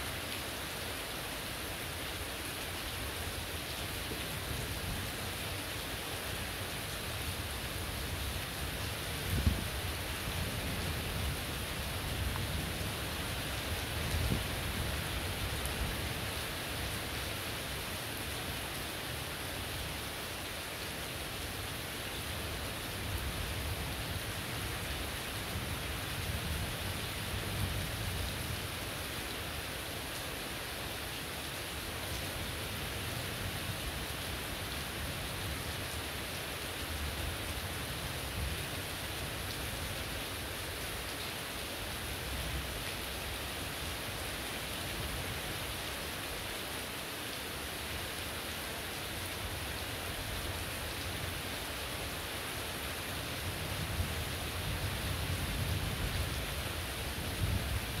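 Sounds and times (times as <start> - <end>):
heavy rain on roofs: 0.0 - 58.0.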